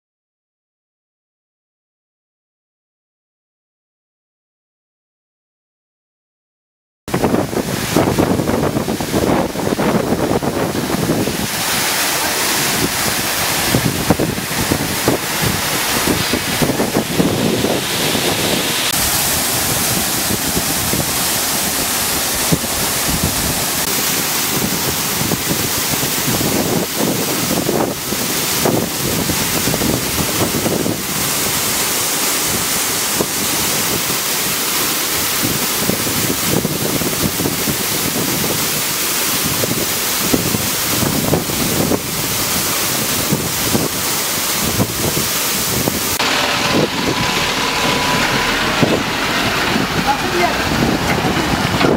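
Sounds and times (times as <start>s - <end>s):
high-pressure water jets spraying: 7.2s - 51.9s.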